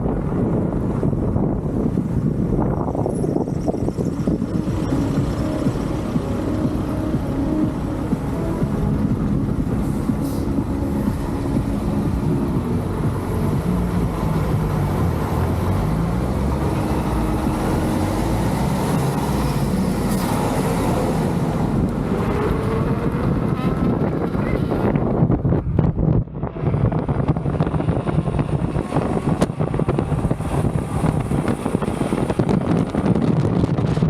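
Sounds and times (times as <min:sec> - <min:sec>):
unicycle tyre humming on road: 0:00.0 - 0:34.0.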